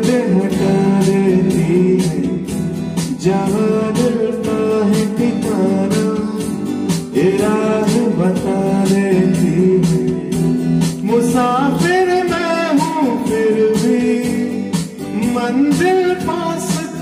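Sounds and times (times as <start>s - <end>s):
live band playing: 0.0s - 17.0s
man singing: 0.0s - 17.0s.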